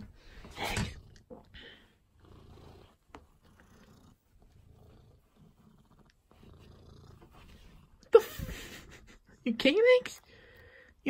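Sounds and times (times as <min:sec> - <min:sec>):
cat purring faintly: 0:00.0 - 0:09.4.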